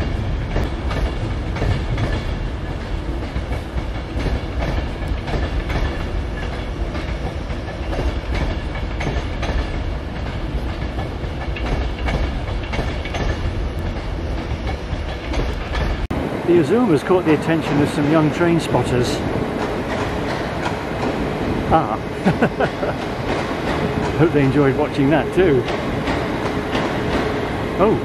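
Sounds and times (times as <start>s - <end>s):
train wheels rumbling on rail: 0.0s - 28.0s
wheels clicking over rail joints: 0.5s - 27.8s.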